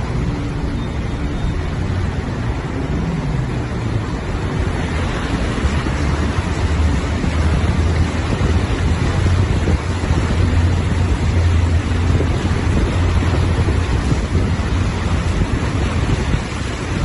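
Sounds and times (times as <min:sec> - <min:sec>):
low hum of moving vehicle: 0:00.0 - 0:17.0
water rushing and splashing: 0:00.0 - 0:17.0.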